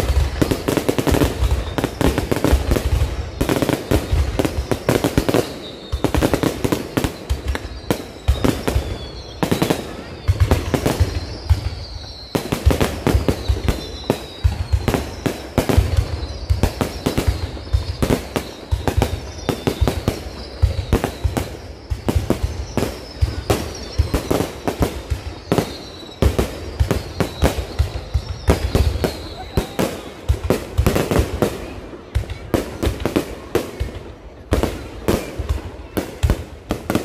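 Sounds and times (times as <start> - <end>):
falling firework whistles: 0.0 - 37.0
fireworks bangs and crackles: 0.0 - 37.0.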